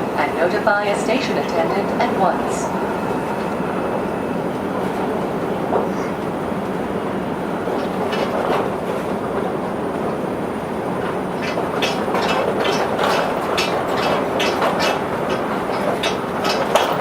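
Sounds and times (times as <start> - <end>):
maglev train running hum: 0.0 - 17.0.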